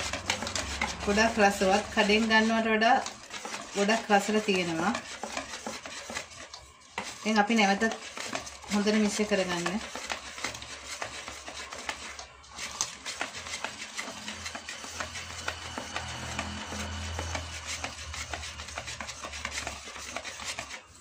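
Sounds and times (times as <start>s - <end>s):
utensil scraping metal bowl: 0.0s - 21.0s.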